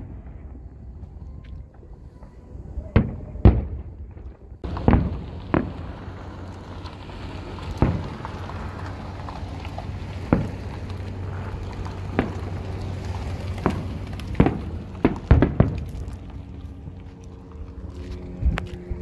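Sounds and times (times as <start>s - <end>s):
fireworks booming: 0.0s - 17.7s.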